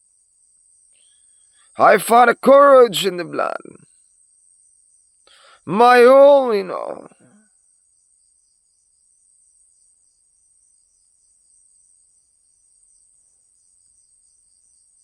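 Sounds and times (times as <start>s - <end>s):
faint crickets chirping: 0.0s - 1.8s, 2.7s - 5.6s, 6.8s - 15.0s.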